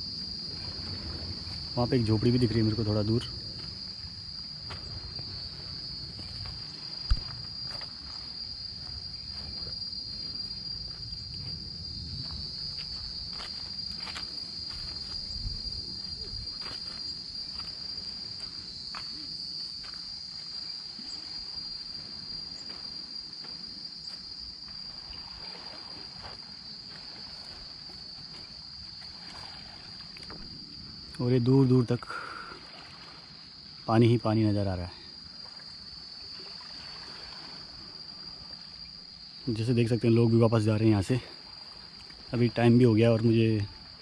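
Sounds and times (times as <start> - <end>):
insects chorus: 0.0 - 44.0.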